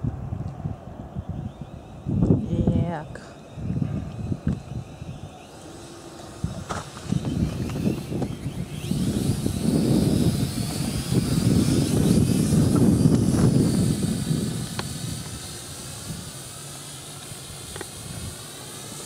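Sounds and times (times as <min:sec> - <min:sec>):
quadcopter propellers whining: 0:00.0 - 0:19.0.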